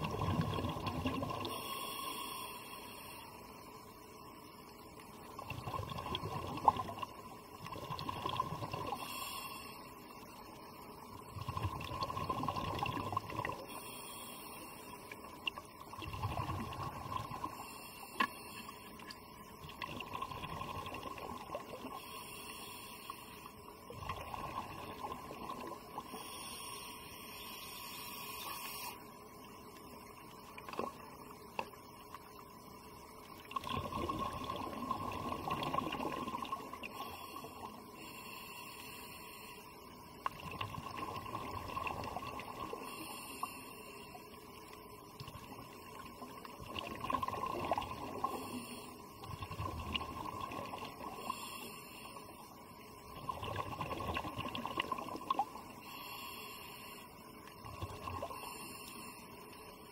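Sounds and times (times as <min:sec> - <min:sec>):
steady high hum: 0:00.0 - 0:53.2, 0:54.6 - 0:59.9
underwater bubbling: 0:00.0 - 0:59.9.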